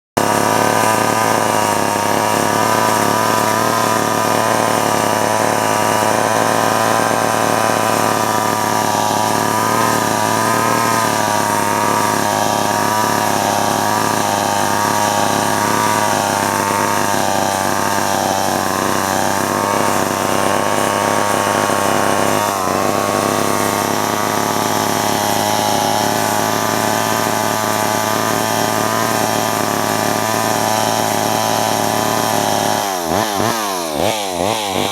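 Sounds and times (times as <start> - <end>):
chainsaw engine running: 0.1 - 34.9.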